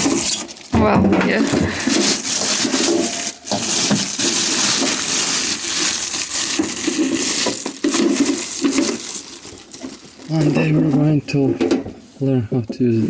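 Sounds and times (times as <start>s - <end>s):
packing material rustling: 0.0s - 11.2s.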